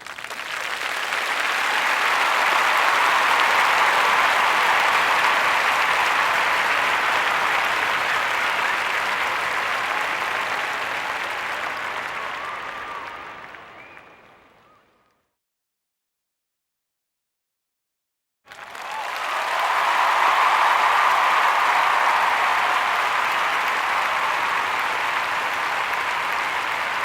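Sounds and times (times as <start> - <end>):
large crowd applauding: 0.0 - 14.8, 18.5 - 27.0.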